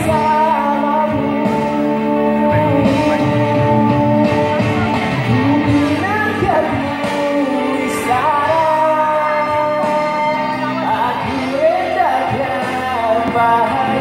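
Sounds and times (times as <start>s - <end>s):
backing music: 0.0s - 14.0s
man singing into a microphone: 0.0s - 14.0s.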